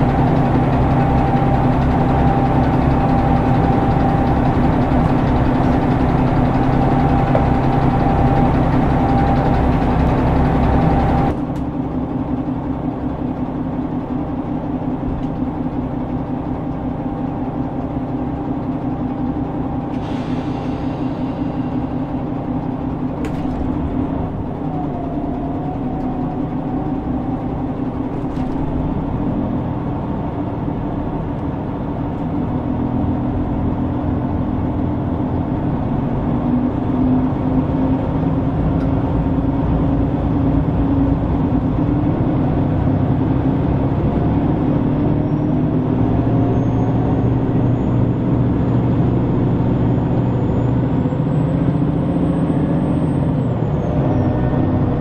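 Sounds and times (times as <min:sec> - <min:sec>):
diesel railcar engine running: 0:00.0 - 0:55.0.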